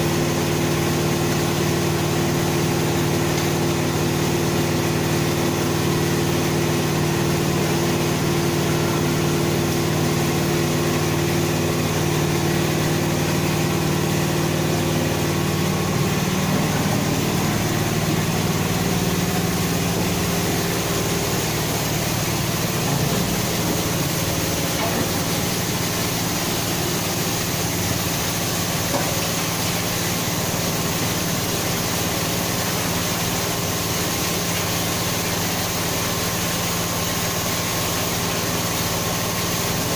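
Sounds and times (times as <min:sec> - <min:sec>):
electric water pump motor humming: 0:00.0 - 0:39.9.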